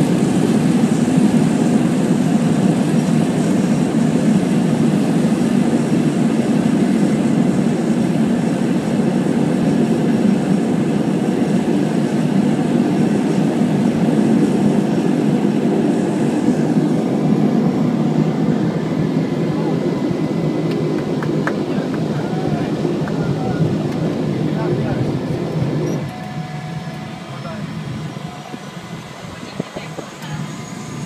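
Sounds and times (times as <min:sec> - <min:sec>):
propeller plane engine noise: 0:00.0 - 0:31.0.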